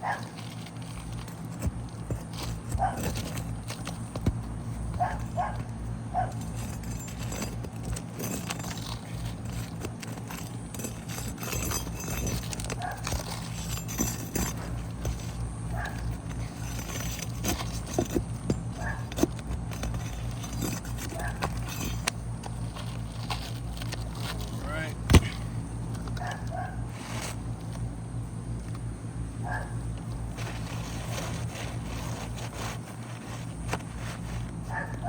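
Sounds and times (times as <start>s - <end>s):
hand tools on roof shingles: 0.0s - 27.8s, 30.0s - 35.0s
steady low hum: 0.0s - 35.0s.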